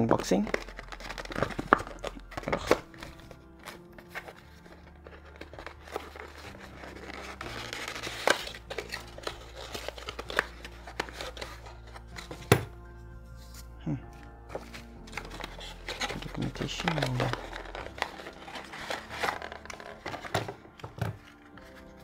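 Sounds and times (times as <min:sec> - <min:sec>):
background music with held tones: 0:00.0 - 0:22.0.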